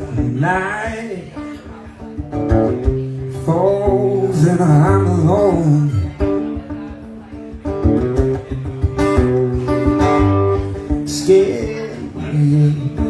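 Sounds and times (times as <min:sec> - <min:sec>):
guitar chords: 0:00.0 - 0:13.0.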